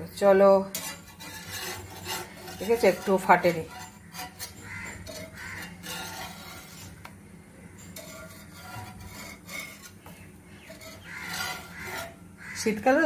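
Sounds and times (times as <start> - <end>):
rolling pin rubbing on dough: 0.8 - 7.1, 7.8 - 12.2.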